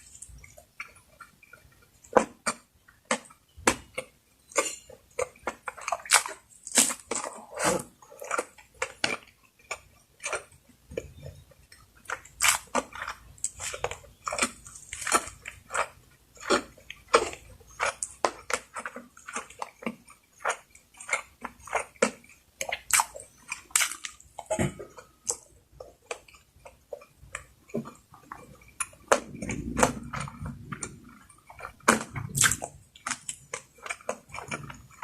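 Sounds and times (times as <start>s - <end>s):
person chewing: 0.0s - 35.0s.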